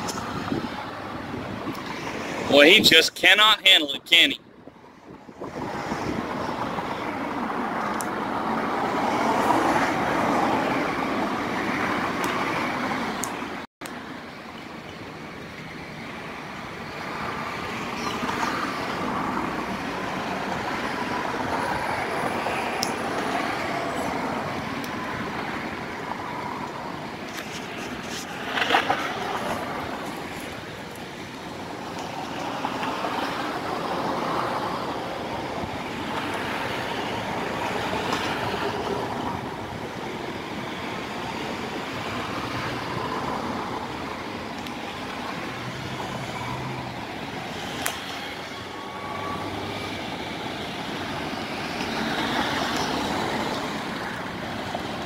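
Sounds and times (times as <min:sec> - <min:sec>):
cars passing by: 0:00.0 - 0:55.0.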